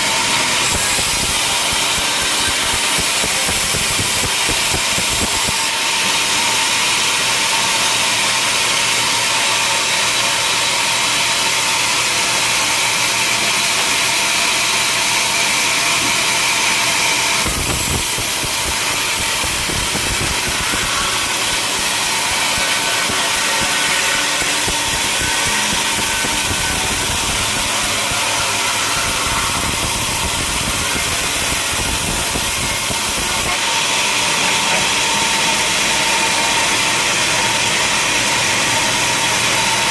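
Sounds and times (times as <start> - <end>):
sawmill machinery whine: 0.0 - 39.9.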